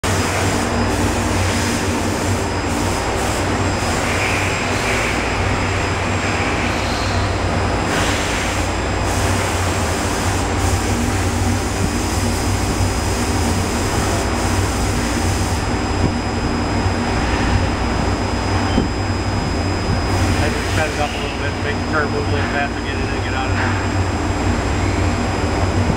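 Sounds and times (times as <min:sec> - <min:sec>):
machine mechanical hum: 0:00.0 - 0:25.9.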